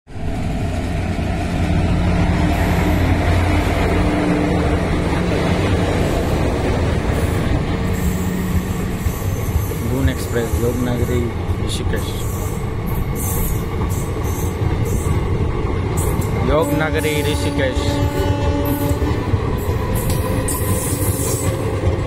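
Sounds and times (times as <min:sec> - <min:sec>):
electric locomotive hum: 0:00.1 - 0:22.0
wheels rumbling on rails: 0:00.1 - 0:22.0.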